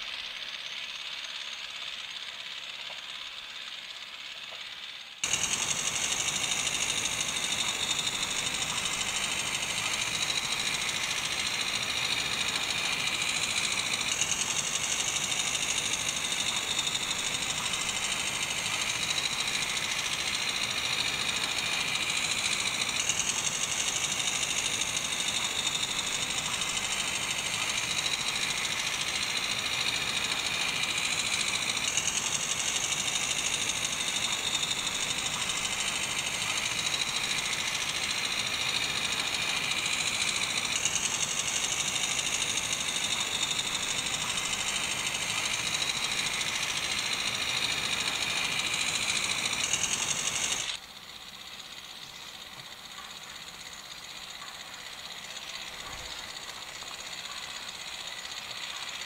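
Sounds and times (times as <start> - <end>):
model train whirring on rails: 0.0 - 59.0.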